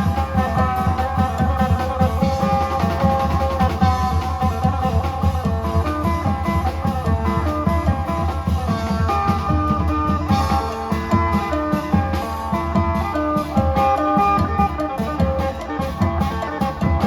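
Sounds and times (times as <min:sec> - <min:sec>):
long drums and percussion: 0:00.0 - 0:17.0.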